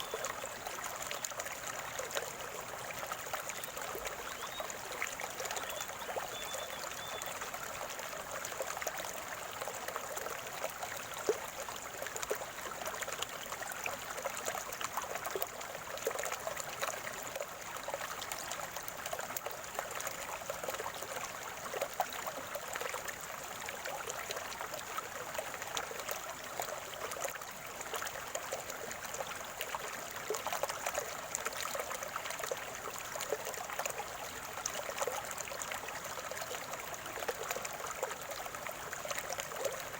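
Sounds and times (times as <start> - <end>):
stream trickling and gurgling: 0.0 - 39.9.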